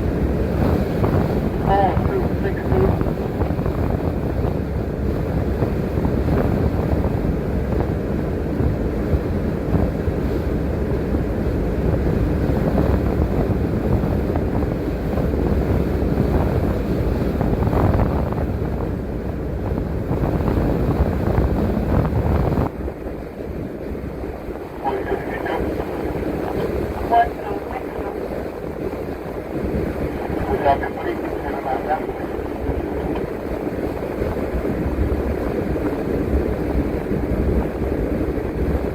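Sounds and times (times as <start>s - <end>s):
bus engine and road noise: 0.0s - 38.9s.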